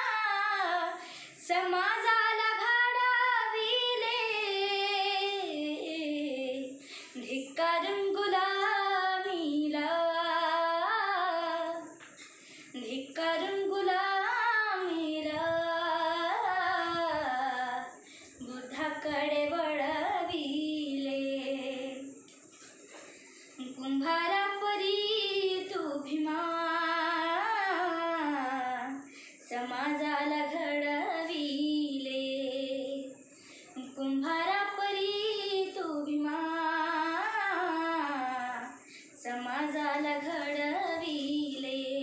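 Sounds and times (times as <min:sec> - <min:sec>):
girl singing unaccompanied: 0:00.0 - 0:22.3, 0:23.3 - 0:42.0.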